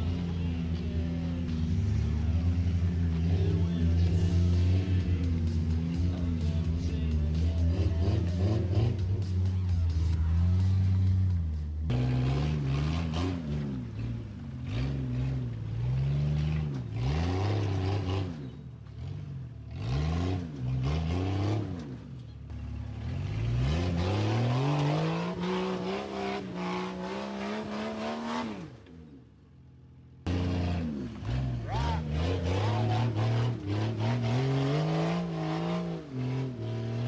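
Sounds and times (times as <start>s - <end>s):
off-road engine revving: 0.0s - 37.0s.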